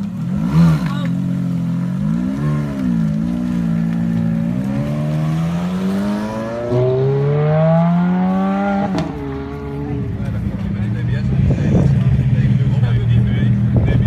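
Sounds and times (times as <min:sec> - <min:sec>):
sports car accelerating hard: 0:00.0 - 0:12.6.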